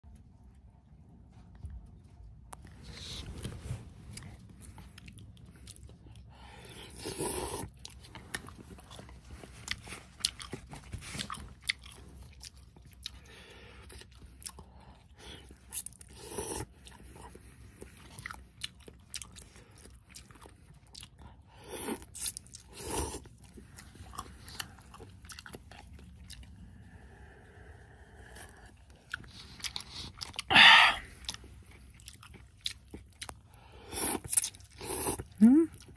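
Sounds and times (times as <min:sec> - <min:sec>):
wet chewing and mouth clicks: 0:02.5 - 0:35.9.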